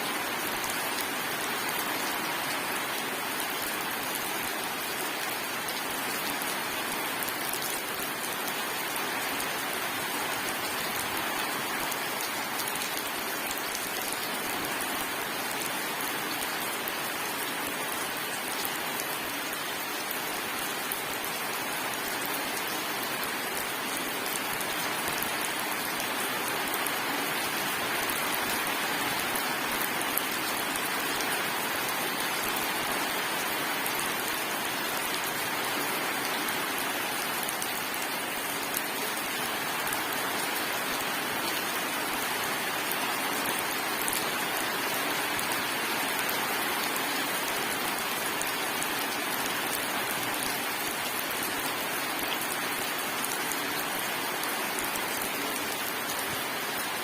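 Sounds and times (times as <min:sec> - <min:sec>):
rain on a hard surface: 0:00.0 - 0:57.0.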